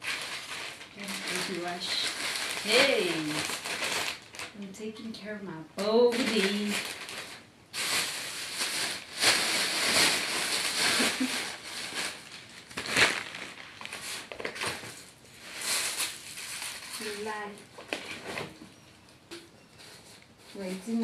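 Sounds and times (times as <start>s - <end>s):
paper wrapping crinkling: 0.0s - 4.6s, 5.8s - 21.0s
plastic bags rustling: 0.0s - 5.1s, 5.8s - 21.0s.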